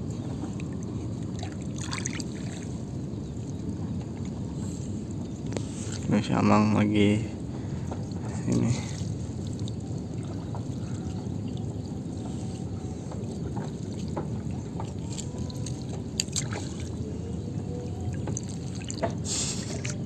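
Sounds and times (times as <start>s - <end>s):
water splashes: 0.3s - 4.4s, 7.3s - 20.0s.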